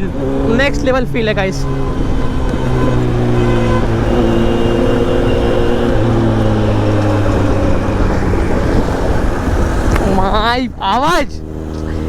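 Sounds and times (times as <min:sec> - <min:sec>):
motorcycle engine running: 0:00.0 - 0:10.6
wind noise: 0:00.0 - 0:12.0.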